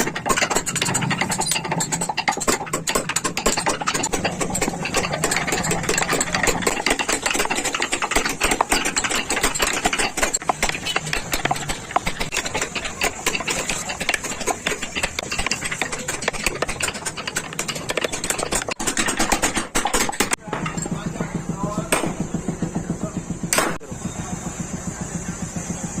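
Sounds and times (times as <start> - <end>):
carving tool rattling on wood: 0.0 - 23.8.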